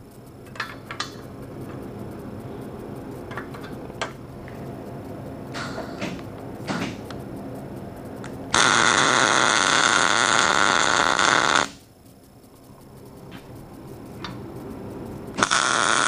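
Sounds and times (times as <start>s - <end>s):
electric arc welding: 0.0s - 16.0s.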